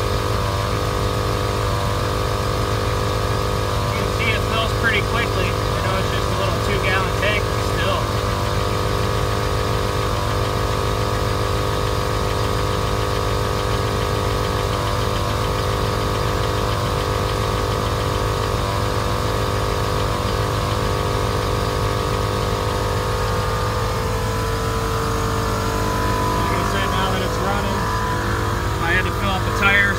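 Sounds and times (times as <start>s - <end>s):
air compressor running: 0.0s - 29.9s
truck engine idling: 0.0s - 29.9s.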